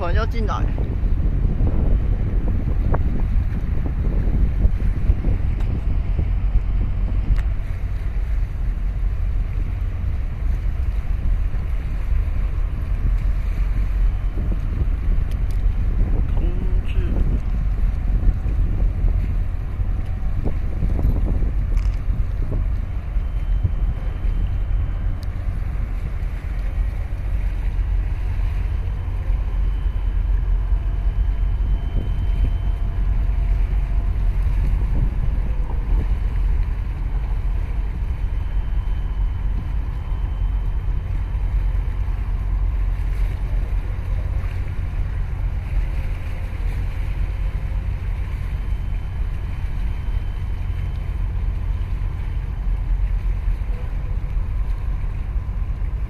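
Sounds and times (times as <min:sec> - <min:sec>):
boat engine rumble: 0:00.0 - 0:56.0
wind buffeting microphone: 0:00.0 - 0:56.0.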